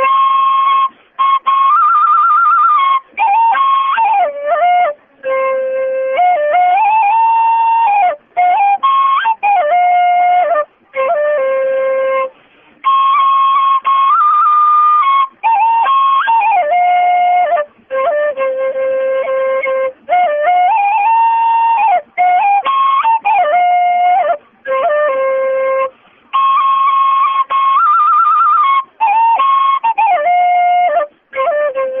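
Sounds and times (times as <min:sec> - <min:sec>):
flute melody: 0:00.0 - 0:32.0.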